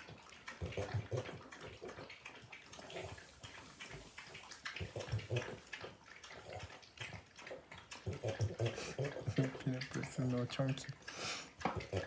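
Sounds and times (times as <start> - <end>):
dogs lapping water: 0.0 - 12.0.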